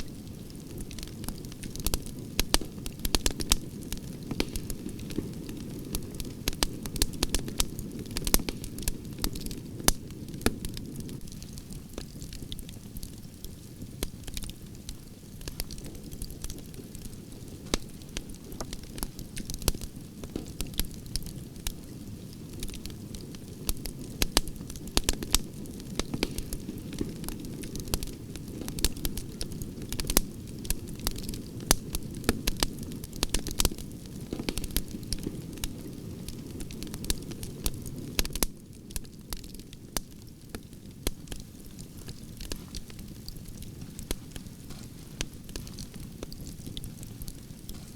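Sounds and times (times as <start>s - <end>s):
campfire flames rumbling: 0.0s - 47.9s
fire popping and snapping: 0.0s - 47.9s.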